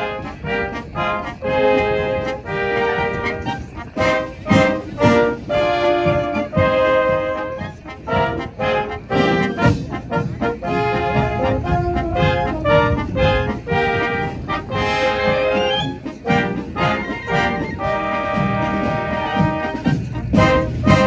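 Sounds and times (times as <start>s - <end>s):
brass band playing: 0.0s - 21.0s.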